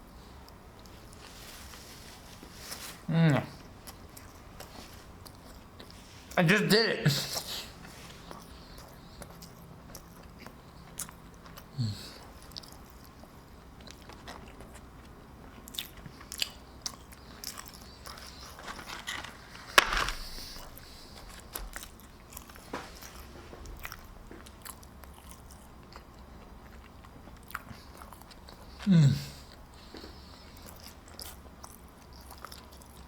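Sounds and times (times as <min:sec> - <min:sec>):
person chewing food: 0:03.5 - 0:06.4, 0:07.3 - 0:33.0.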